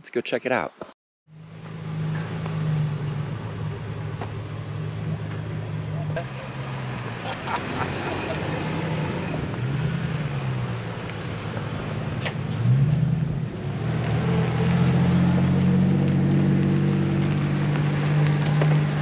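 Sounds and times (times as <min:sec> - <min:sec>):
vehicle engine revving: 0:01.3 - 0:19.0.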